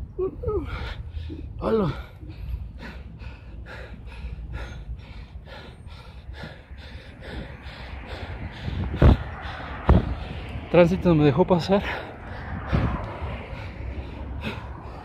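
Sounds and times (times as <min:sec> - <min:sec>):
wind rumbling on microphone: 0:02.2 - 0:15.0.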